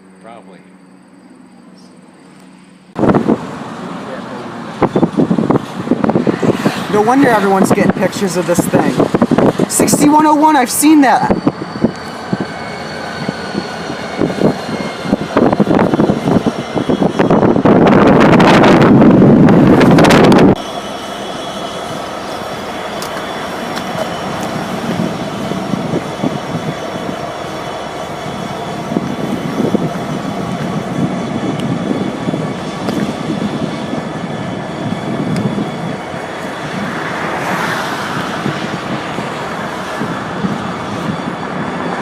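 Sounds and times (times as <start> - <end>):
thin steady squeal: 0.0 - 3.0, 3.6 - 42.0
train wheels rumbling on rails: 0.1 - 42.0.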